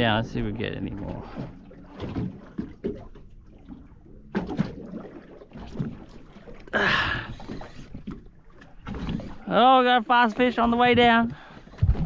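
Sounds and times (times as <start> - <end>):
water slapping against a hull: 0.0 - 12.0.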